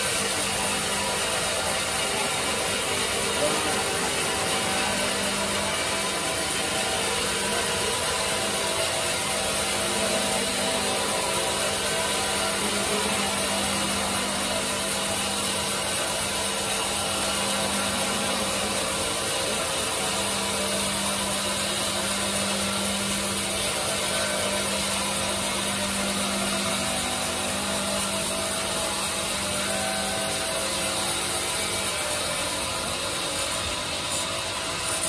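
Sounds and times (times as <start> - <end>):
band saw cutting log: 0.0 - 35.0.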